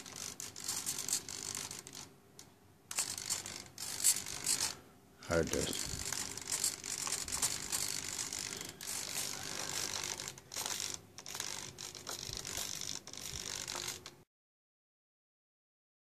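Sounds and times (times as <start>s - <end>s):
small servos whirring: 0.0s - 2.1s, 2.9s - 14.2s.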